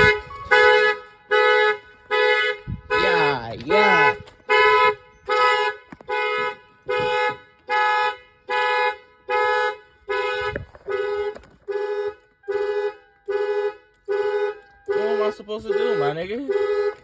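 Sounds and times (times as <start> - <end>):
car alarm horn blasts: 0.0 - 17.0.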